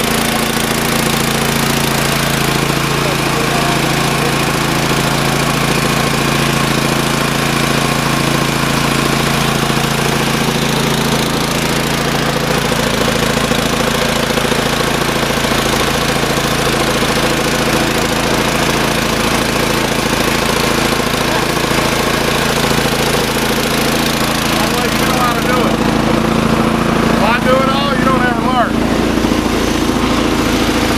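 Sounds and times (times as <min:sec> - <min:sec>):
small gasoline engine running: 0:00.0 - 0:30.9.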